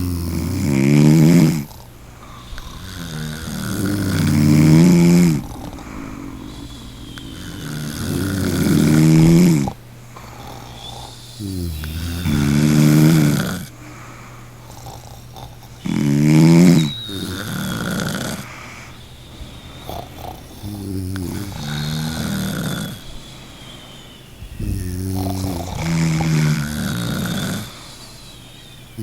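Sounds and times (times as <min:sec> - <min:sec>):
person snoring: 0:00.0 - 0:29.0
soft breathing: 0:00.0 - 0:29.0.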